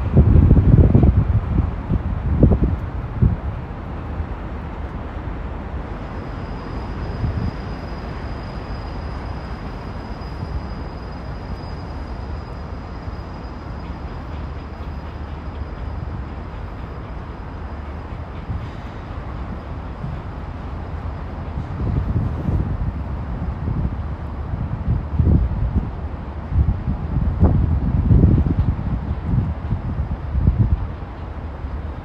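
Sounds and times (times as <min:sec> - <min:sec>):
outdoor noise: 0:00.0 - 0:32.0.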